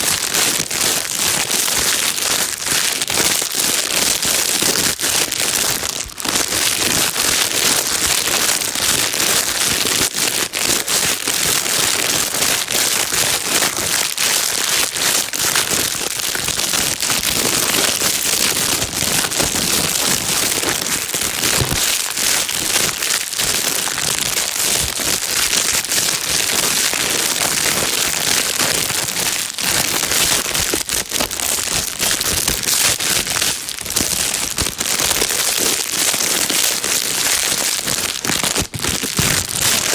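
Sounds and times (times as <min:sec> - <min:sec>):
plastic bag crinkling: 0:02.3 - 0:39.9.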